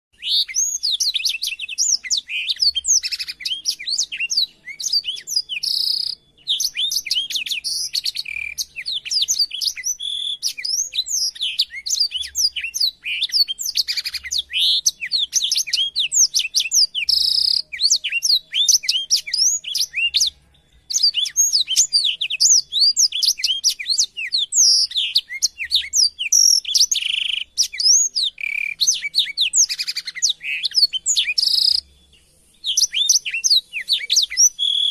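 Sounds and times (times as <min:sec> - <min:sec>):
canary singing: 0:00.2 - 0:34.9.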